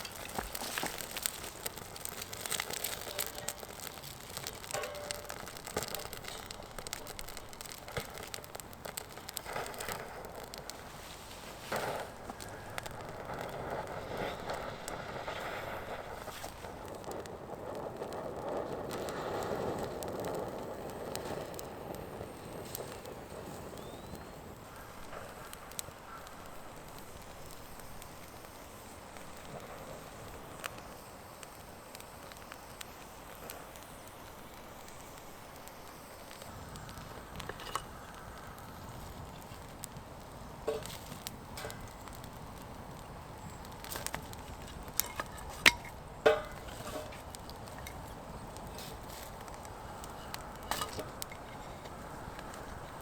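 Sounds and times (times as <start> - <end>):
sharp pops from fire: 0.0 - 53.0
small wood fire crackling: 0.0 - 53.0.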